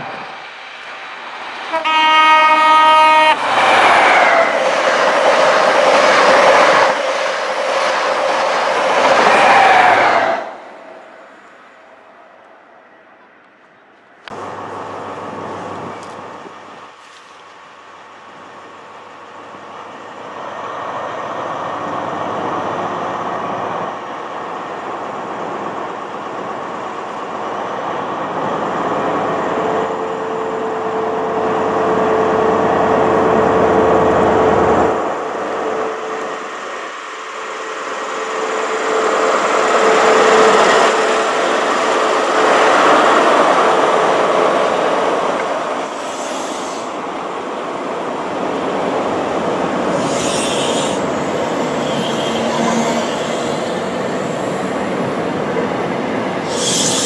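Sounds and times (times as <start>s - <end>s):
passing train rumble: 0.0s - 57.0s.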